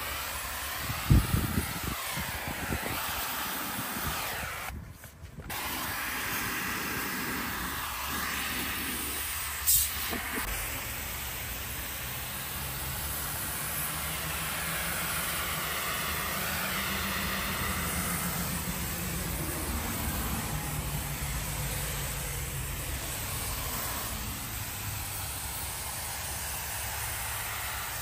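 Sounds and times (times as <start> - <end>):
pressure washer spray hissing: 0.0 - 4.8, 5.4 - 28.0.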